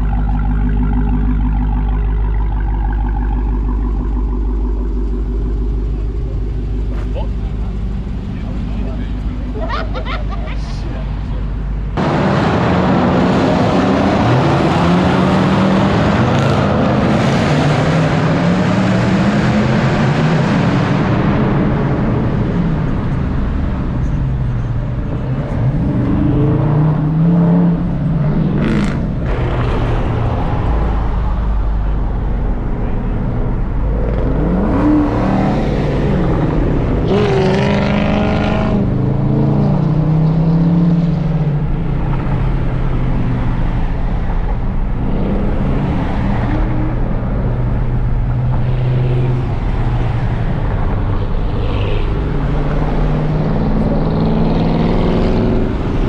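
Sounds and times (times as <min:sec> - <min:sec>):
car engines revving: 0:00.0 - 0:56.0
road noise: 0:00.0 - 0:56.0.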